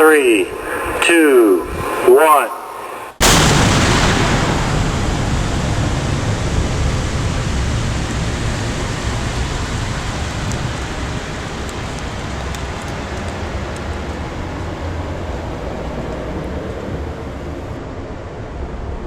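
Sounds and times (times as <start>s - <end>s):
faint crackles: 0.0s - 17.6s
explosion roar with deep rumble: 0.0s - 19.0s.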